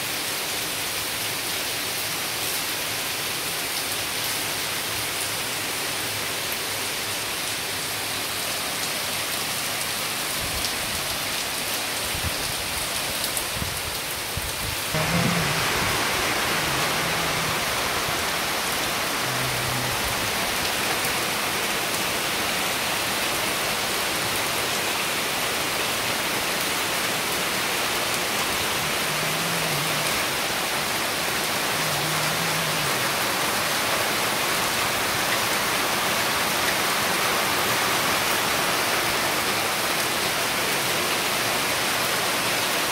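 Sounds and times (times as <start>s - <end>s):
heavy rain on foliage: 0.0s - 42.9s.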